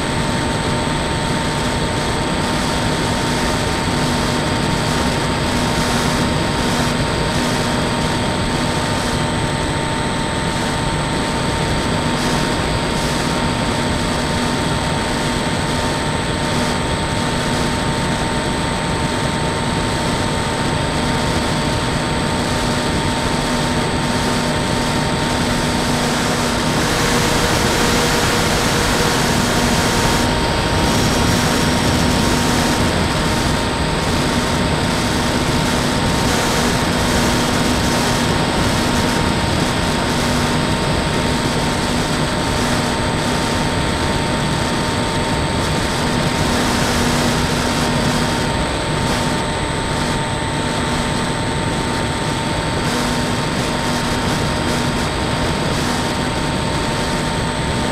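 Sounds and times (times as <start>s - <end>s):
electric motor and propeller whine: 0.0s - 57.9s
rushing wind: 0.0s - 57.9s.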